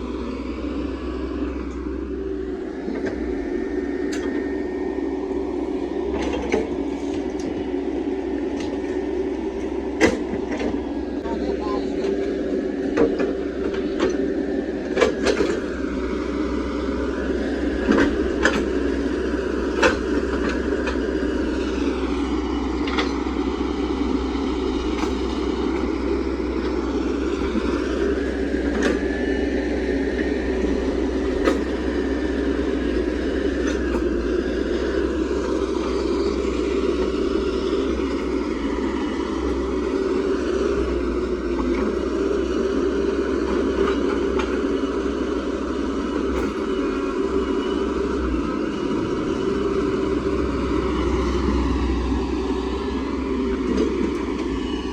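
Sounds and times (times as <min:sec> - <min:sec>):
diesel engine running: 0:00.0 - 0:54.9
hydraulic whine: 0:00.0 - 0:54.9.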